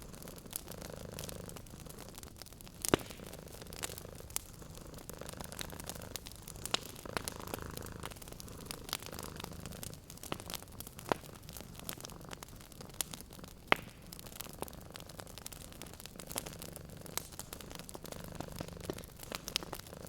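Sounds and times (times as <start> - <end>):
cat purring: 0.0 - 20.0
sharp pops from fire: 0.0 - 20.0
wood fire crackling: 0.0 - 20.0.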